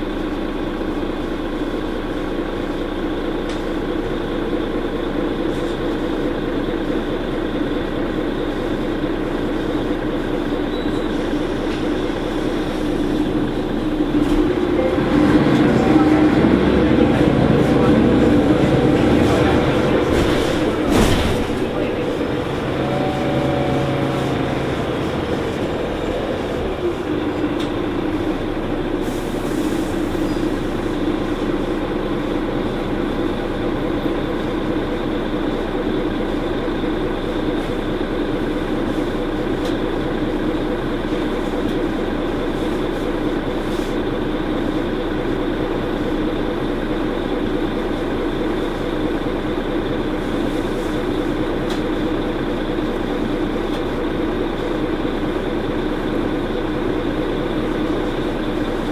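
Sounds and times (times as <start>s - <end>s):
bus drivetrain drone: 0.0s - 58.9s
road noise: 0.0s - 58.9s.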